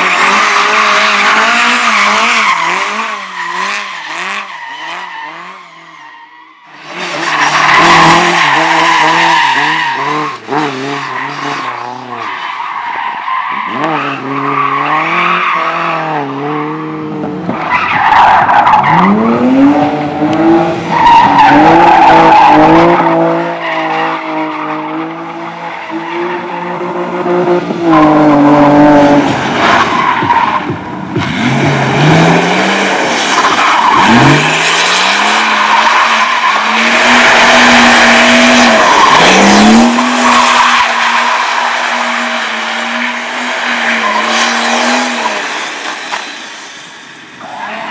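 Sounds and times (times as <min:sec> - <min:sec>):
race car engine revving: 0:00.0 - 0:05.9, 0:06.8 - 0:12.4, 0:13.5 - 0:46.1
tyres squealing and skidding: 0:00.0 - 0:26.9, 0:27.9 - 0:47.9.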